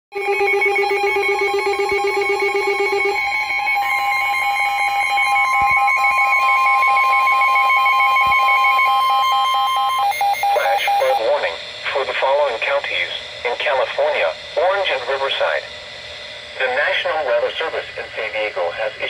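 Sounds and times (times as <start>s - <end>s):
steady electronic alert tone: 0.2s - 17.4s
faint pulsing tones: 0.2s - 19.0s.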